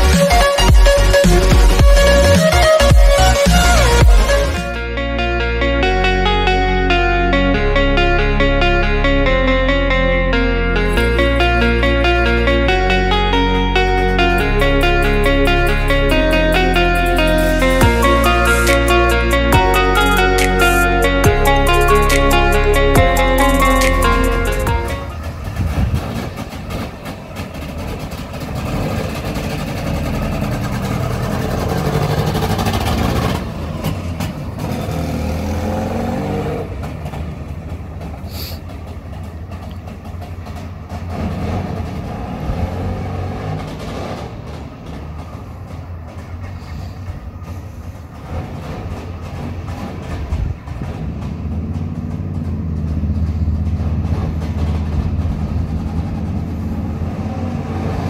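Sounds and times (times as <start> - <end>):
two-stroke car engine driving off: 11.0 - 58.0.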